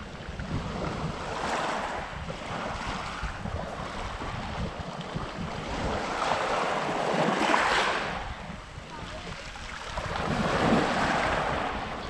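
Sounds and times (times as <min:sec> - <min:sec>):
sea waves breaking: 0:00.0 - 0:12.0
wind rumbling on microphone: 0:00.0 - 0:12.0.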